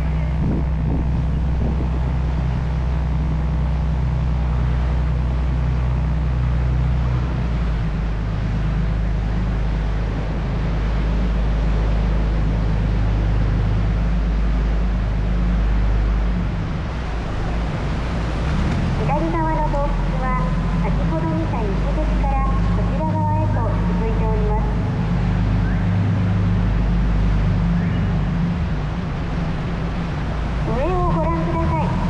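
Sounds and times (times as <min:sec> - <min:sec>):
boat engine humming: 0:00.0 - 0:32.0
water wash: 0:00.0 - 0:32.0
wind noise: 0:00.0 - 0:32.0.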